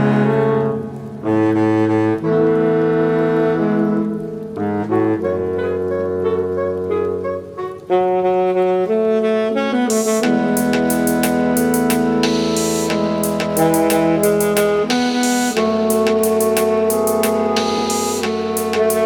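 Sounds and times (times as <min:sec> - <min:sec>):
saxophone choir playing chords: 0:00.0 - 0:19.0.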